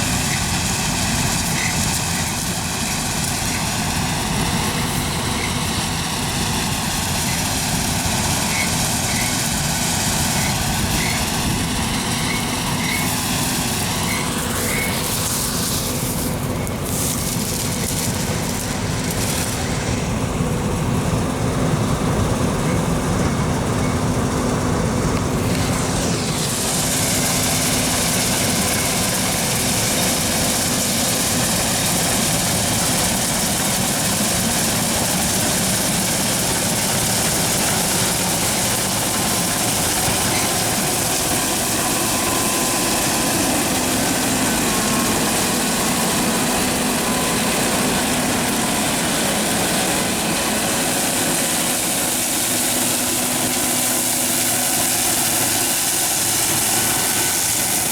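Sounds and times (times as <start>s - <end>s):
loud high hiss: 0.0s - 20.7s, 25.3s - 57.9s
combine harvester running: 0.0s - 57.9s.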